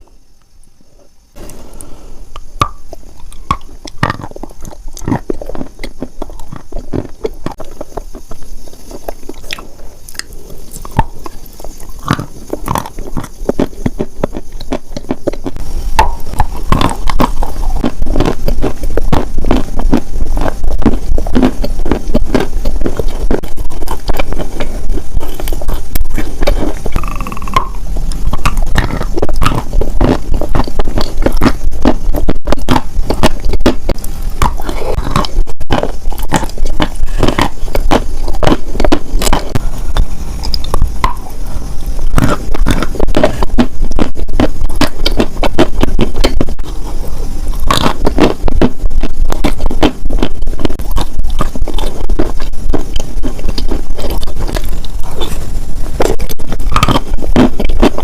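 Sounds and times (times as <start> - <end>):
close scratching and crackling: 2.8 - 58.0.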